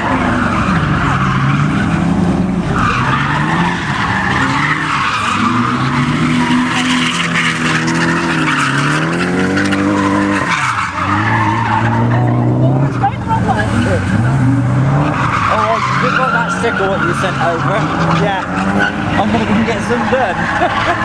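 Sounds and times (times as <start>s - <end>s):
car engine revving: 0.0s - 21.0s
tyres squealing: 0.1s - 21.0s.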